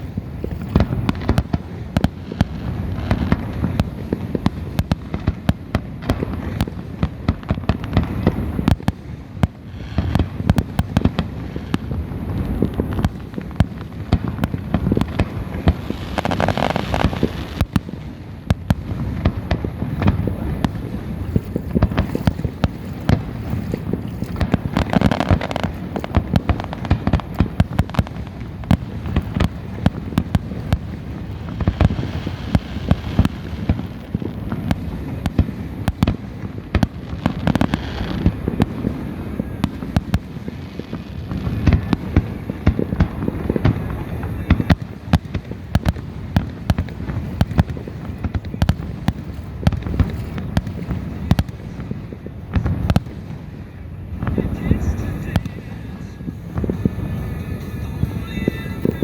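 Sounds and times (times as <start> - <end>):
fireworks popping and banging: 0.0 - 59.0.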